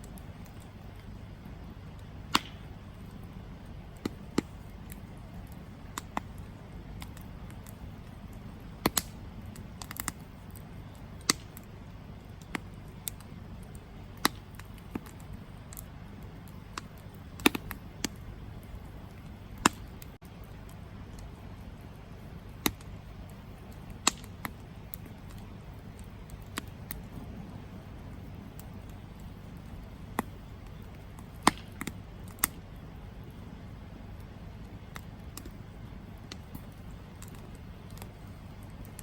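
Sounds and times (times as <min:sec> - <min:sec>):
campfire crackling and popping: 0:00.0 - 0:39.0
low rumble of fire: 0:00.0 - 0:39.0.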